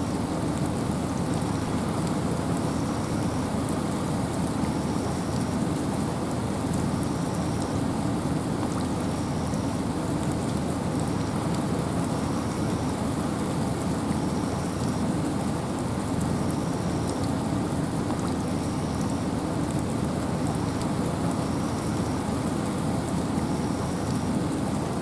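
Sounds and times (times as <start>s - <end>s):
rain falling in a forest: 0.0s - 25.0s
wind: 0.0s - 25.0s
raindrops ticking: 0.2s - 25.0s.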